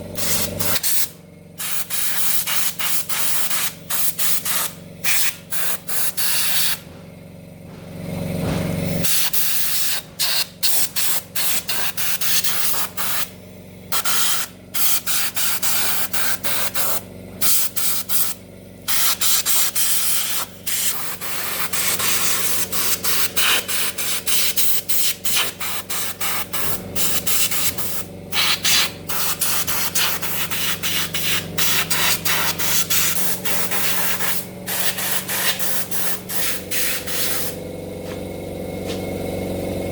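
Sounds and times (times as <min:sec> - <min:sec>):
steady low hum: 0:00.0 - 0:39.9
compressed air spurts hissing: 0:00.2 - 0:06.8, 0:08.9 - 0:13.3, 0:13.9 - 0:38.2.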